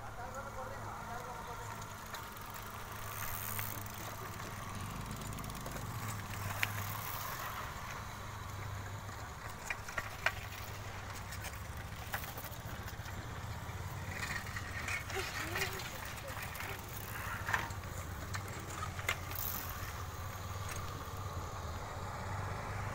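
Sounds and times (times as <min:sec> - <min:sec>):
bike clicks and rattles: 0:00.0 - 0:22.1
mountain bikes rolling on dirt: 0:00.0 - 0:22.9.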